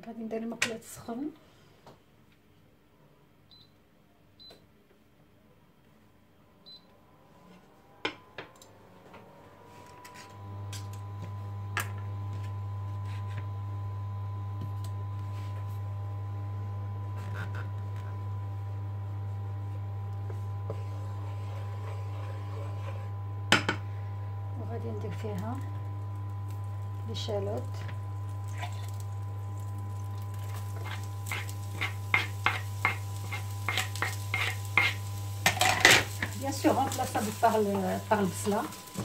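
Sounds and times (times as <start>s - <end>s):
fan tone: 6.6s - 39.0s
induction hob humming: 6.7s - 39.0s.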